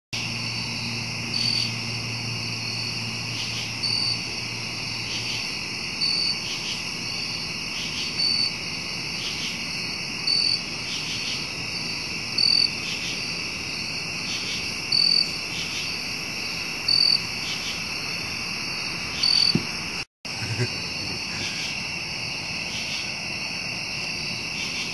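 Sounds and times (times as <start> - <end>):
insect chirp: 0.2 - 24.9
insects trilling: 0.2 - 24.9.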